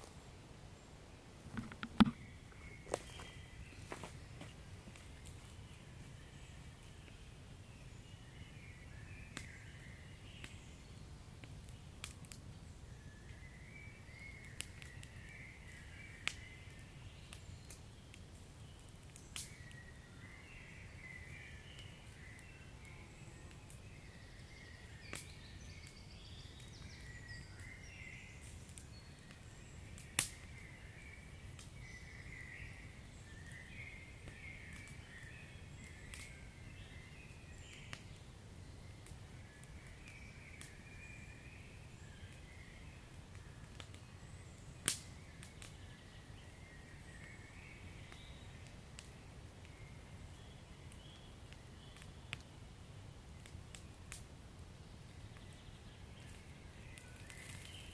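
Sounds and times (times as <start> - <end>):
fire crackles and pops: 1.4 - 57.9.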